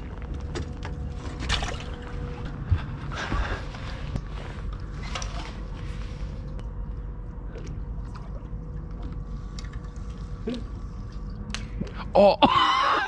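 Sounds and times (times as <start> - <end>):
wind and water rumble: 0.0 - 12.2
faint steady hum: 0.0 - 13.0.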